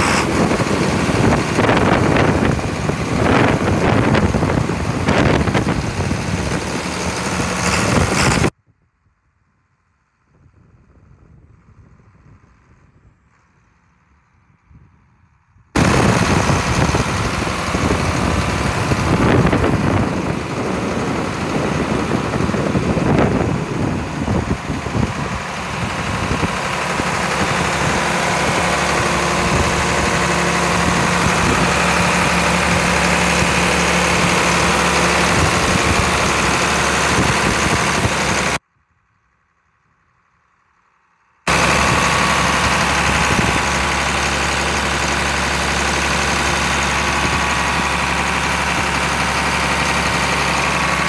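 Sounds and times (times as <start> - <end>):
diesel engine idling: 0.0 - 8.5, 15.8 - 51.0.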